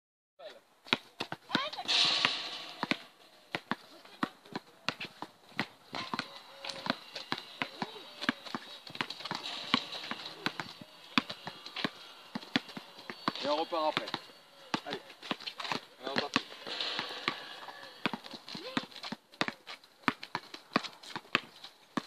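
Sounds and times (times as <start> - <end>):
basketball bouncing on concrete: 0.8 - 22.0.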